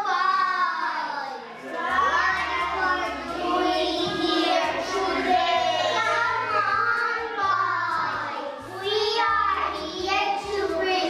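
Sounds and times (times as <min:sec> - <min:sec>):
young children singing in unison: 0:00.0 - 0:11.0.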